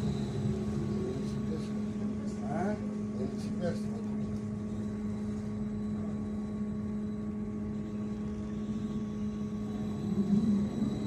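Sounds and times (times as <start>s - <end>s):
electrical hum with whining tones: 0.0s - 11.0s.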